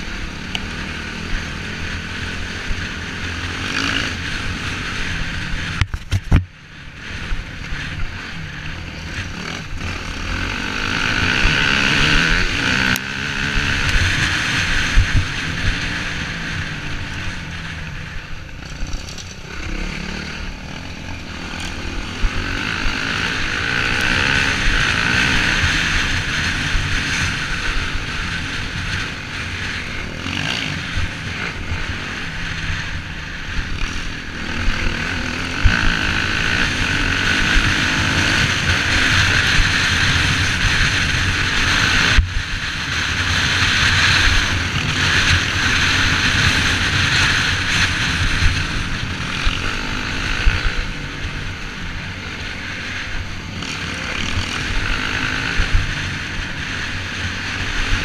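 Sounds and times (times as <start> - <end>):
off-road motorcycle engine revving: 0.0 - 58.0
wind rush over microphone: 7.2 - 58.0.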